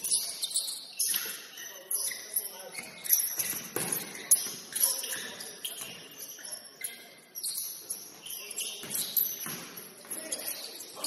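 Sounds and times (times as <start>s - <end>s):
shoes squeaking on court floor: 0.0s - 11.0s.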